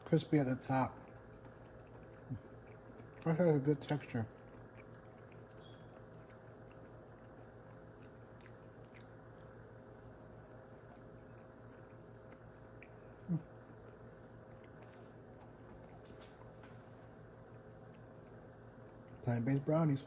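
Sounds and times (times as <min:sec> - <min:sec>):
chewing crisp food: 0:00.0 - 0:20.0
mouth clicks and crunches: 0:00.0 - 0:20.0.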